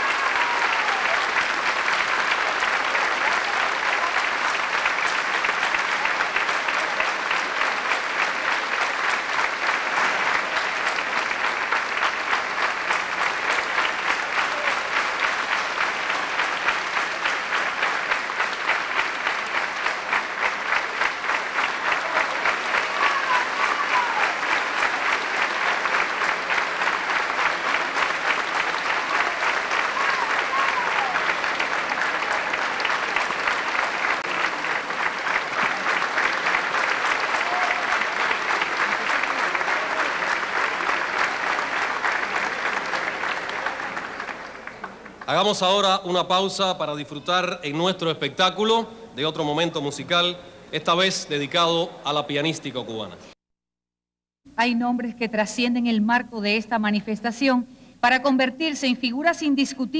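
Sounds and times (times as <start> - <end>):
audience applauding: 0.0 - 53.1.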